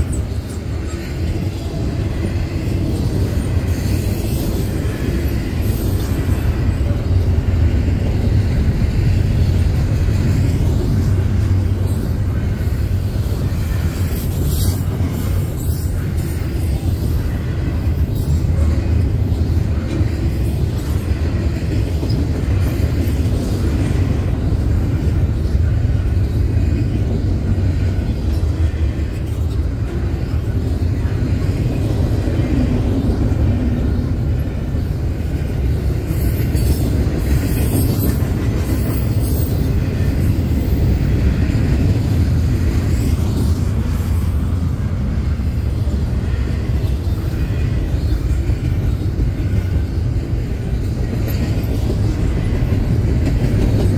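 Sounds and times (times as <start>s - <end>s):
train rumbling over rails: 0.0s - 53.9s.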